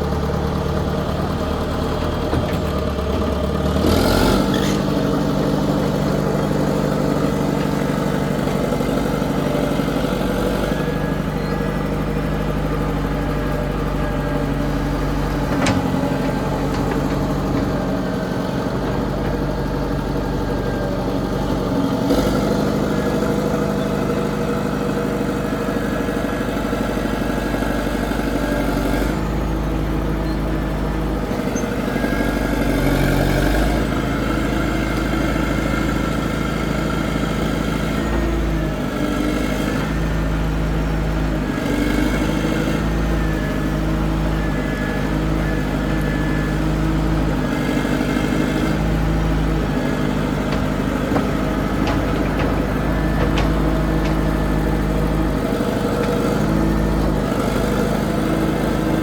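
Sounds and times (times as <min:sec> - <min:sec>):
loader engine running: 0:00.0 - 0:59.0.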